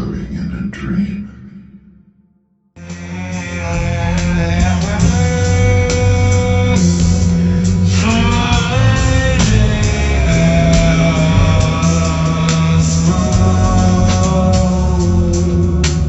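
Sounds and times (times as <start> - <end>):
guitar with bending notes: 2.8 - 16.0
music with heavy bass: 2.8 - 16.0.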